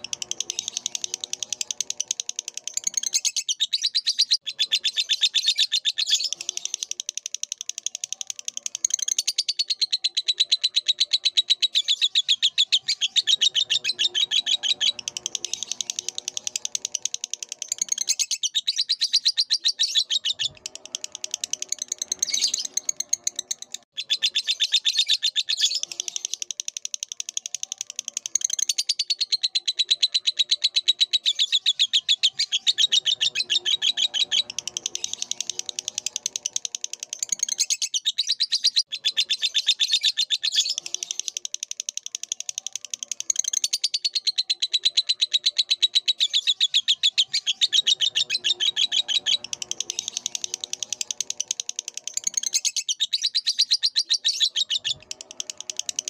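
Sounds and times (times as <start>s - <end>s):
lovebird chattering chirps: 0.0s - 56.0s.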